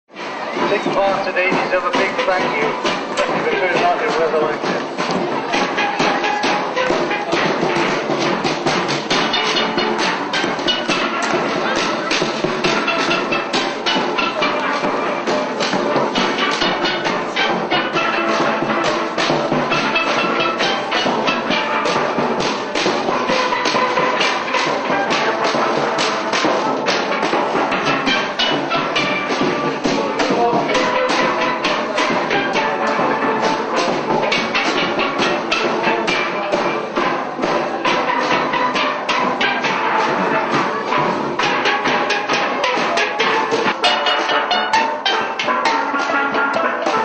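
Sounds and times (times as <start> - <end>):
lively percussive music: 0.1 - 47.0.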